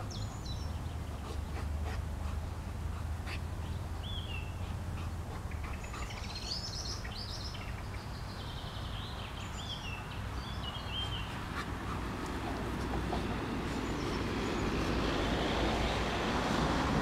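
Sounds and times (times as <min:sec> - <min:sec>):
small songbirds singing: 0:00.0 - 0:17.0.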